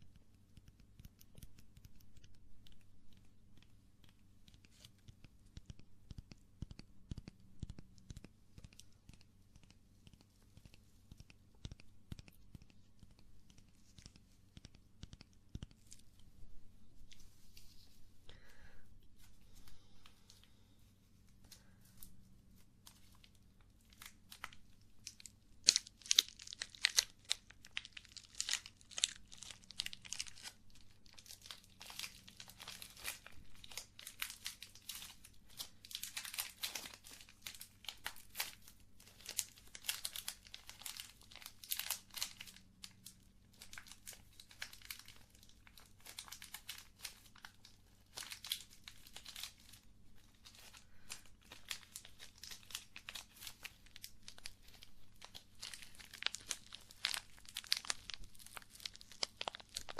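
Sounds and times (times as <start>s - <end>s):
close-up crinkling and crackling: 0.0s - 59.9s.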